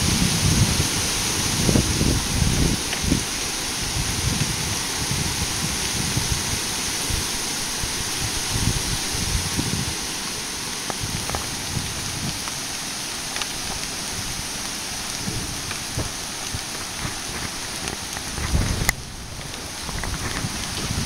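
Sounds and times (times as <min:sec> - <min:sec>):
rain falling on pavement: 0:00.0 - 0:21.0.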